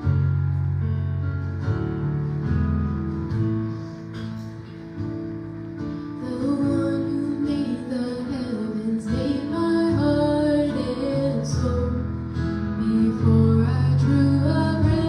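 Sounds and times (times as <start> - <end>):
guitar: 0.0 - 15.0.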